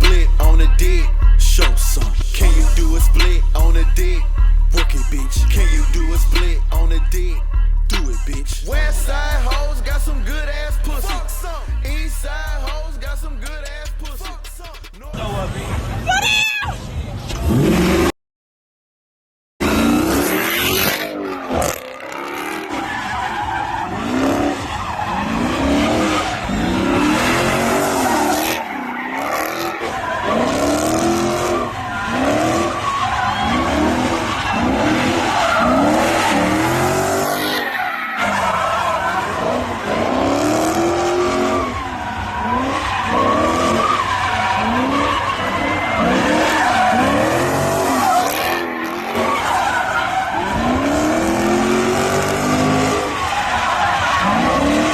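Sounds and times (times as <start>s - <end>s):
car engine revving: 0.0s - 16.0s, 19.6s - 54.9s
tyres squealing and skidding: 0.0s - 18.1s, 19.6s - 54.9s.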